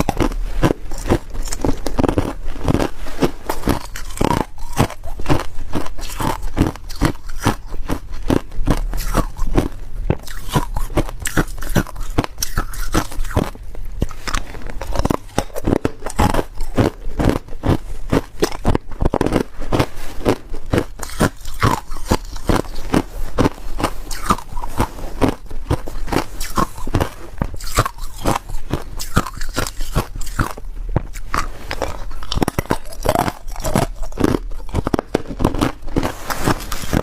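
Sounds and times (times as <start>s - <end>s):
ice crunching between teeth: 0.0s - 37.0s.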